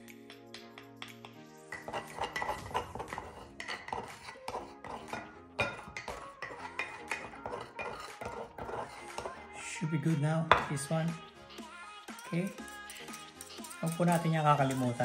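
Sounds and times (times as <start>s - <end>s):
faint background music: 0.0s - 15.0s
metal spoon scraping mortar: 1.2s - 9.6s, 10.5s - 15.0s.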